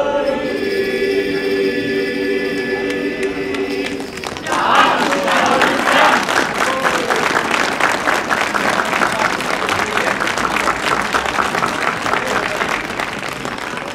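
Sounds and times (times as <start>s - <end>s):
voices calling out: 1.2s - 13.0s
crowd applauding: 2.6s - 13.9s.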